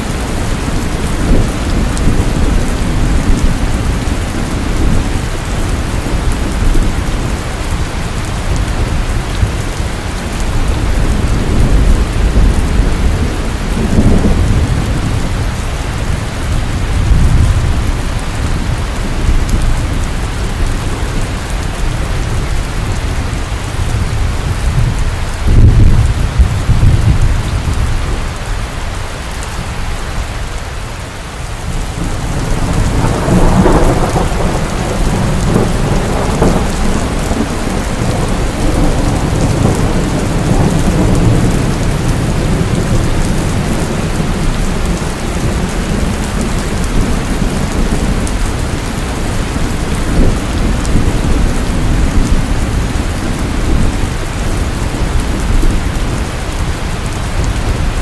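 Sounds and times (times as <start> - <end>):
thunder rolling: 0.0 - 9.8, 10.4 - 28.2, 31.6 - 58.0
heavy rain: 0.0 - 58.0.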